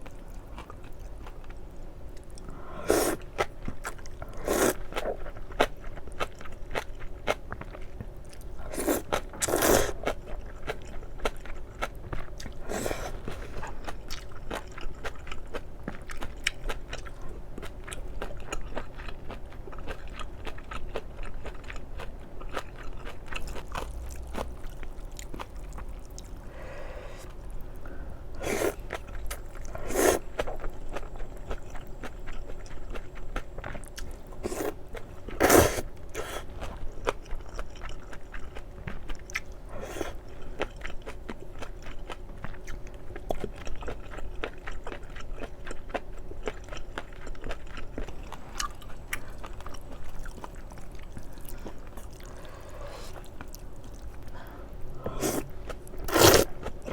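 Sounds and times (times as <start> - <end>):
chewing and biting food: 0.1 - 26.5, 27.2 - 56.9.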